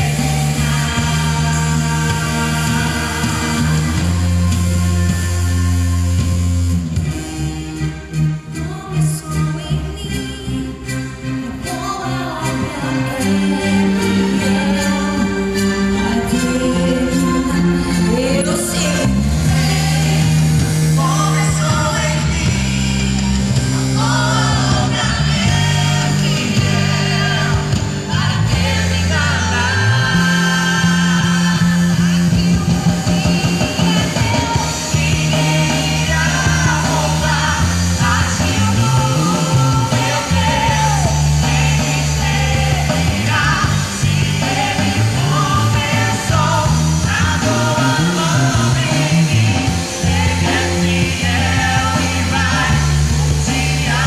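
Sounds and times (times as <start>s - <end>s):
bass line: 0.0s - 54.0s
gospel band with singing: 0.0s - 54.0s
lead melody: 0.0s - 54.0s.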